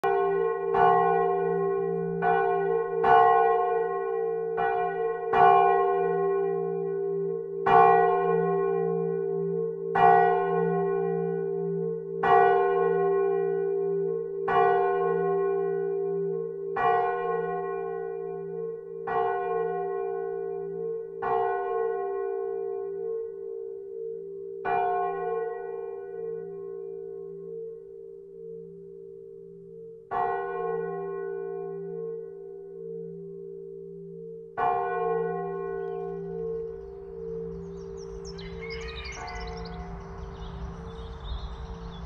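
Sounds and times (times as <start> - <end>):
church bell ringing: 0.0 - 42.0.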